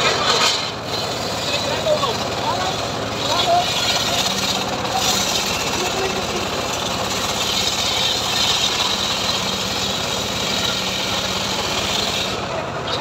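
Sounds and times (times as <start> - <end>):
saw blade cutting wood: 0.0 - 13.0
sawmill engine running: 0.0 - 13.0.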